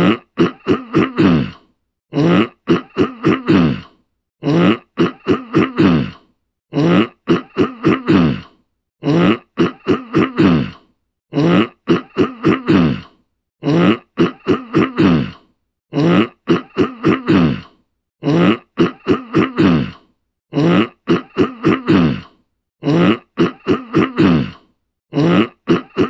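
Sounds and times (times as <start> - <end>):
person clearing throat: 0.0 - 26.0.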